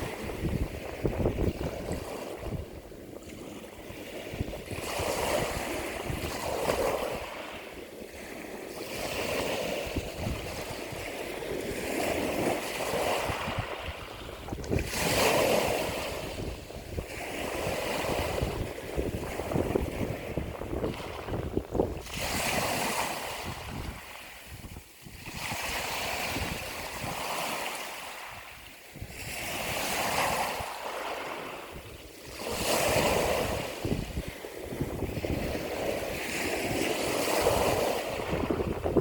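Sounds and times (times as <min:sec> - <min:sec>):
ocean waves breaking: 0:00.0 - 0:39.0
wind rumble on microphone: 0:00.0 - 0:39.0.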